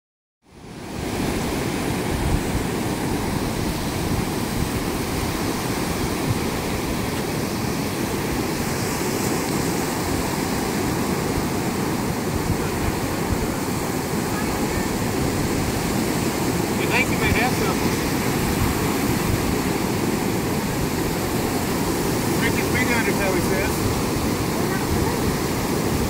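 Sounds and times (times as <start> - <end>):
surf breaking on a beach: 0.5 - 26.0.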